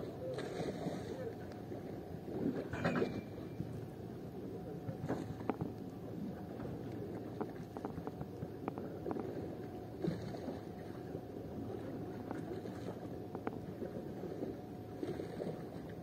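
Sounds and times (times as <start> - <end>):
boat engine rumble: 0.0 - 16.0
faint steady hum: 0.0 - 16.0.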